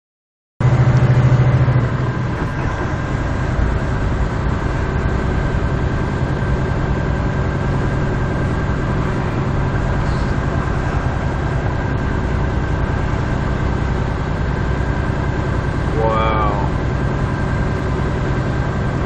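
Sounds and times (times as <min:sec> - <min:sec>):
road noise on snow: 0:00.6 - 0:19.0
vehicle engine drone: 0:00.6 - 0:19.0.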